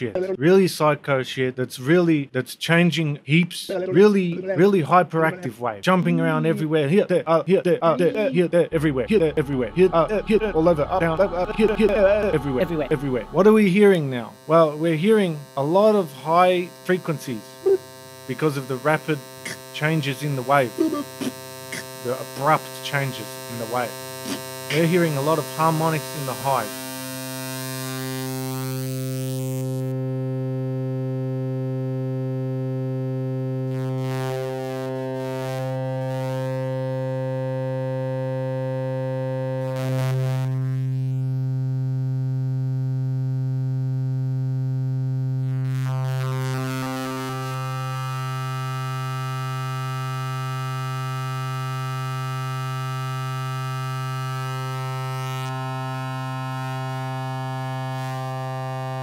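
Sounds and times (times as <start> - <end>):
sustained low synthesizer note: 7.8 - 59.0.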